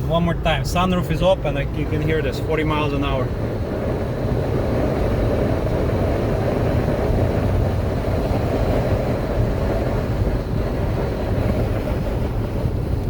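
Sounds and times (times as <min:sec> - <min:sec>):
road noise: 0:00.0 - 0:13.0
wind rushing into car cabin: 0:00.0 - 0:13.0.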